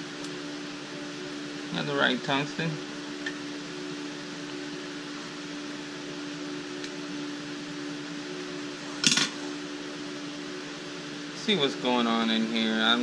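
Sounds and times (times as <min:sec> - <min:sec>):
fan electric hum: 0:00.0 - 0:13.0.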